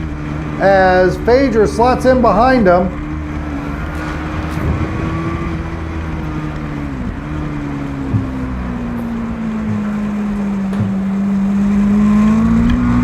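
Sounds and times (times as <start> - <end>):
racing motorcycle engines droning: 0.0 - 13.0.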